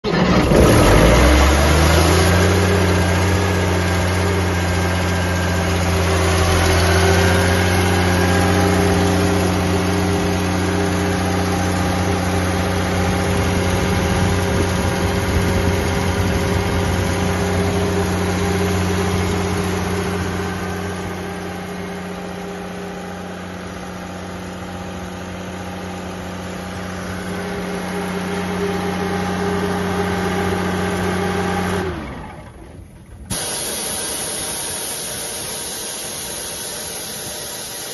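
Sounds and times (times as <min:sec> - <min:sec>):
compressor diesel engine idling: 0:00.1 - 0:37.9.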